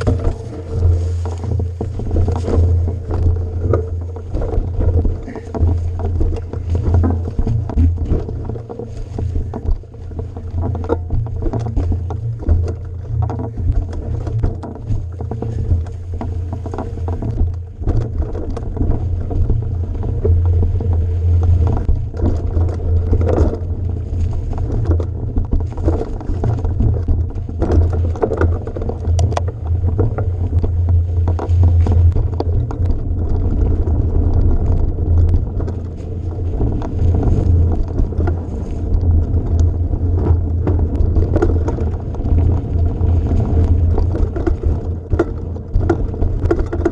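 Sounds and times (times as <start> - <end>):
rattles and knocks: 0.0 - 46.9
vehicle rumbling over rough ground: 0.0 - 46.9.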